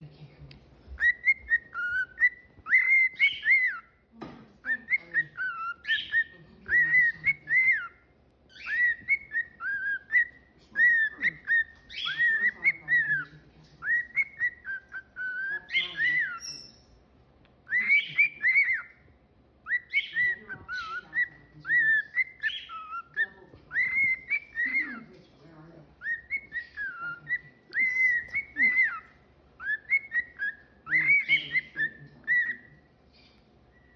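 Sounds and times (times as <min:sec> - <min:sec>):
cockatiel whistling a tune: 0:00.9 - 0:04.0, 0:04.6 - 0:16.8, 0:17.7 - 0:25.1, 0:26.0 - 0:32.7.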